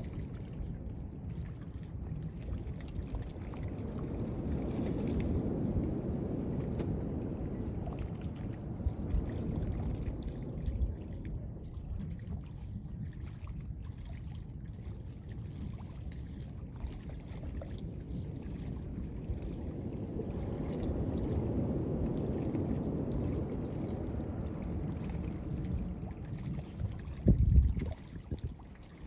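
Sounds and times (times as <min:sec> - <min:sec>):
ocean waves washing on beach: 0:00.0 - 0:29.0.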